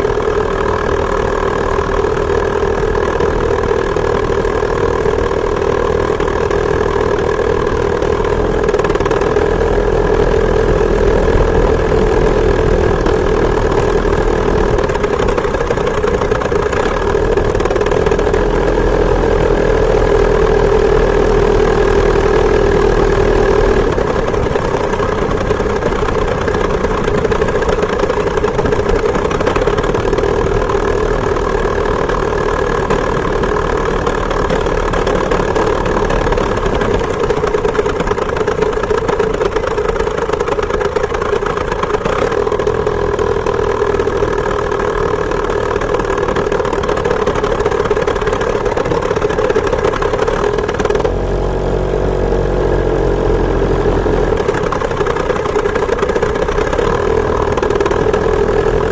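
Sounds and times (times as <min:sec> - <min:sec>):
two-stroke engine at high revs: 0:00.0 - 0:58.9.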